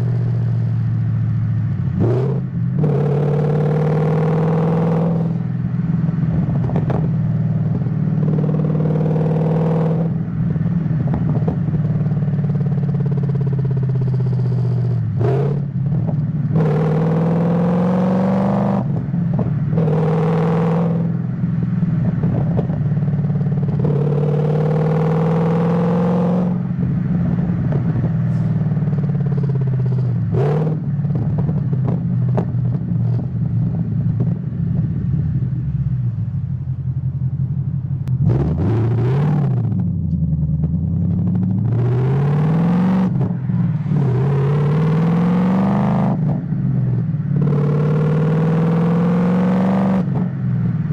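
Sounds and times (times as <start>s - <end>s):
car engine revving through gears: 1.9s - 5.5s, 6.4s - 10.2s, 11.0s - 21.2s, 22.2s - 33.3s, 38.0s - 50.4s.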